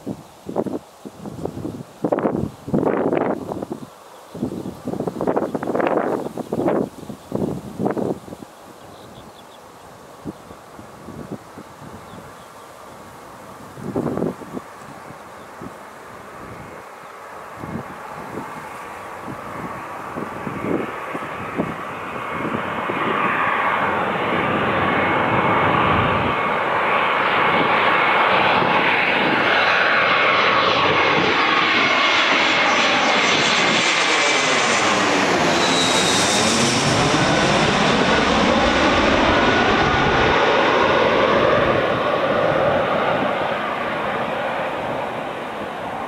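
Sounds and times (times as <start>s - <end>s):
jet engines passing overhead: 0.0s - 46.0s.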